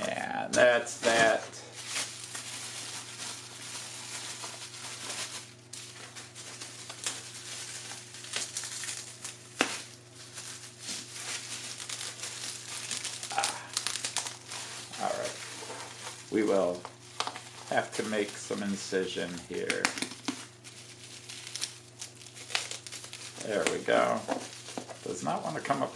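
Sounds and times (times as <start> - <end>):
bubble wrap crinkling: 0.0 - 25.9.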